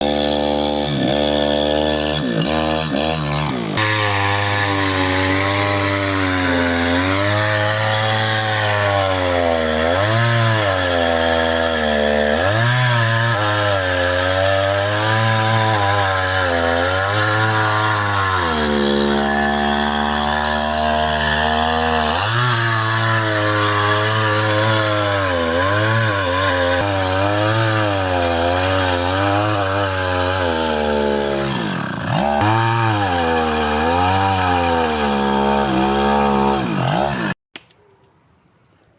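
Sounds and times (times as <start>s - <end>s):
chainsaw cutting wood: 0.0s - 37.4s.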